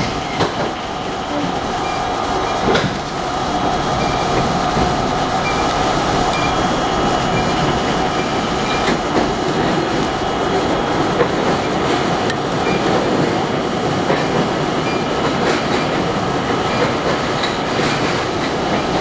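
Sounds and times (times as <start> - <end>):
subway wheels rumbling on rail: 0.0 - 19.0.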